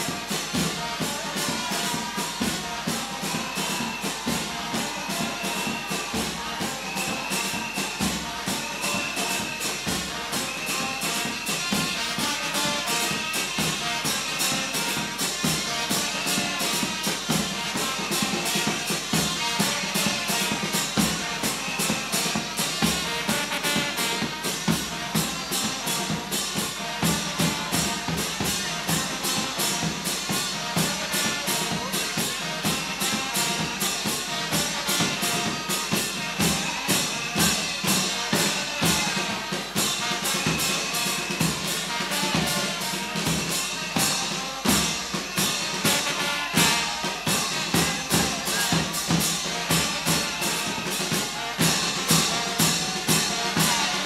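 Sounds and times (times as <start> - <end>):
brass band playing horns: 0.0 - 54.0
marching drums beating: 0.0 - 54.0.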